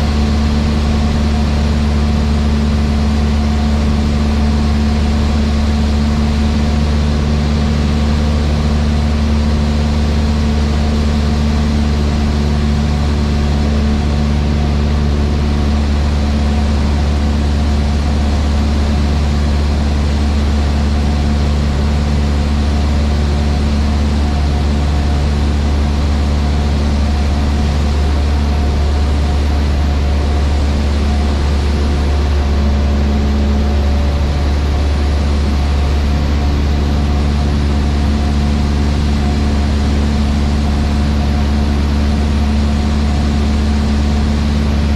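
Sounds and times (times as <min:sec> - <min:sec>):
airplane engine and propeller drone: 0:00.0 - 0:44.9.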